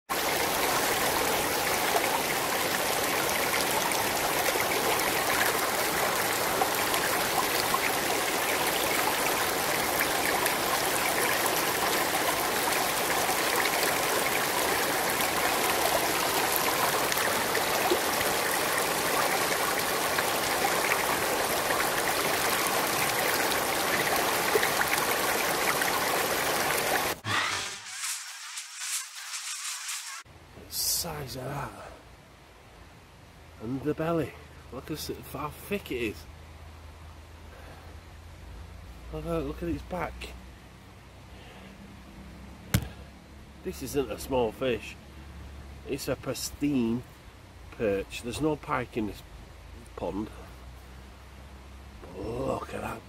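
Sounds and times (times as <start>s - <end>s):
stream running over rocks: 0.1s - 53.0s.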